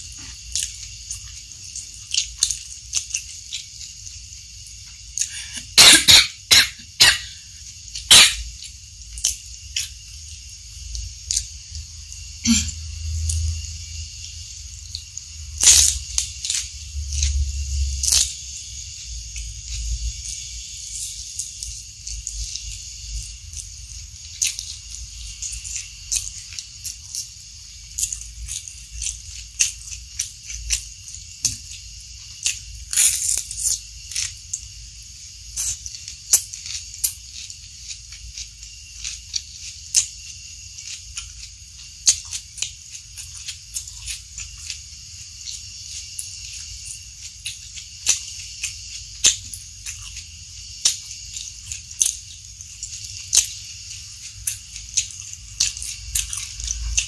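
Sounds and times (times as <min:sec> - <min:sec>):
close chewing with crunches: 0:00.0 - 0:57.0
steady high hiss: 0:00.0 - 0:57.0.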